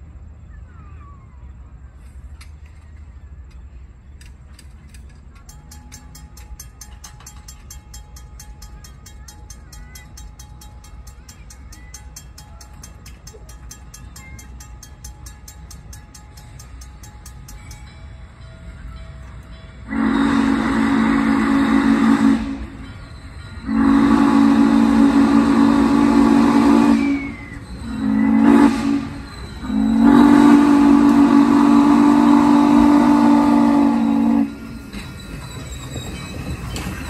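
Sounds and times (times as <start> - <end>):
locomotive rolling past: 0.0 - 37.0
steam locomotive chime whistle: 5.5 - 37.0.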